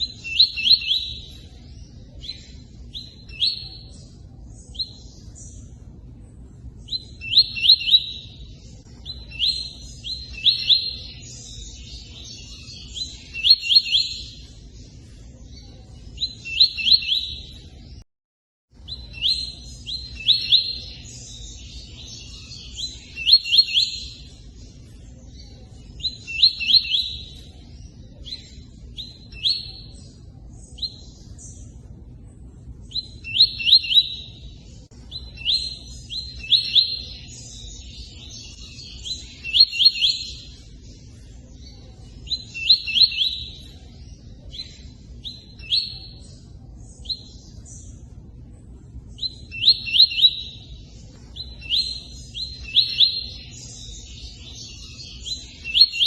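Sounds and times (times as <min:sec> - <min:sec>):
bird chirping song: 0:00.0 - 0:18.1, 0:18.7 - 0:56.0.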